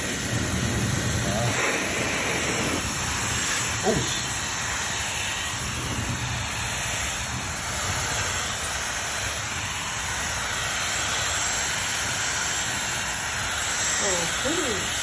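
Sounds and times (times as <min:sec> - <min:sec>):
hairdryer blowing air: 0:00.0 - 0:15.0.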